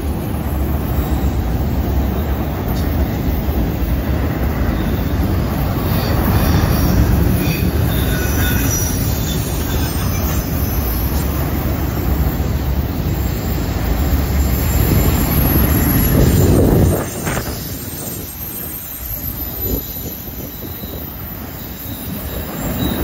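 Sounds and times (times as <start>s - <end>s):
train wheels rumbling on rails: 0.0s - 23.0s
high wheel squeal: 0.8s - 23.0s.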